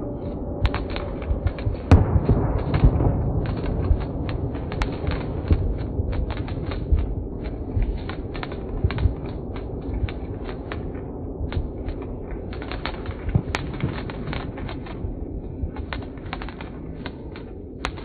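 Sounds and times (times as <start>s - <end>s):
low rumble: 0.0s - 18.0s
firework fountain crackling: 0.7s - 18.0s.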